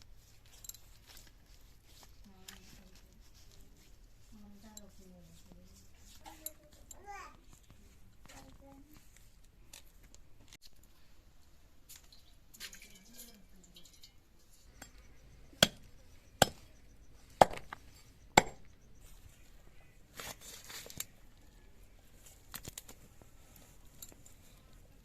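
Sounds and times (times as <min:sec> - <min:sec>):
rustling handling sounds: 0:00.0 - 0:25.0.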